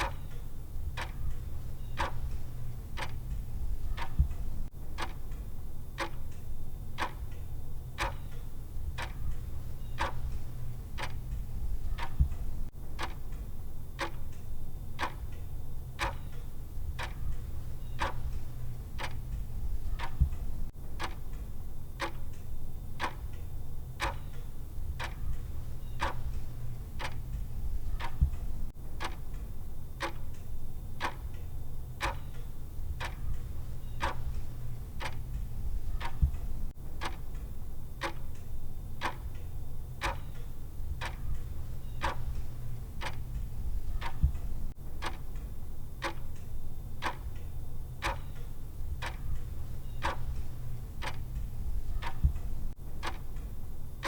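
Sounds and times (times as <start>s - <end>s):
low steady hum: 0.0s - 54.0s
timer ticking: 0.0s - 54.0s.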